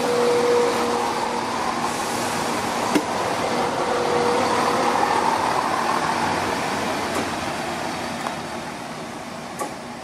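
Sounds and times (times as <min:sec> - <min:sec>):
train engines and wheels rumbling: 0:00.0 - 0:10.0.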